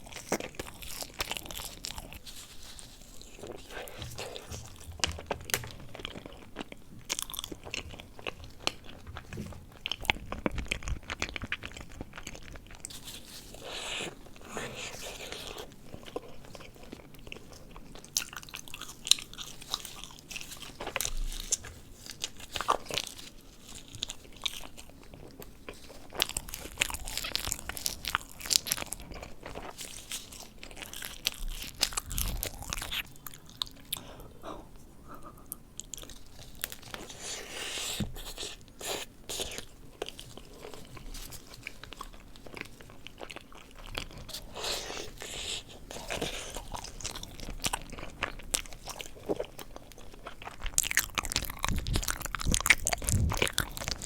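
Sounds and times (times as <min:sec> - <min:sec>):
chewing soft dessert: 0:00.0 - 0:54.0.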